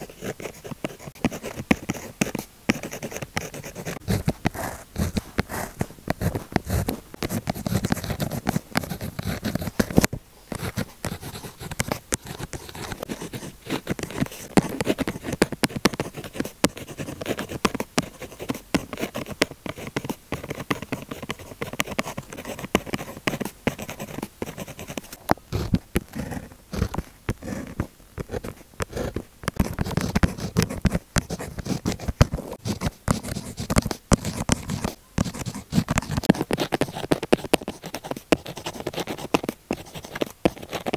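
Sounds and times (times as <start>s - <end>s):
pen writing on paper: 0.0s - 40.9s.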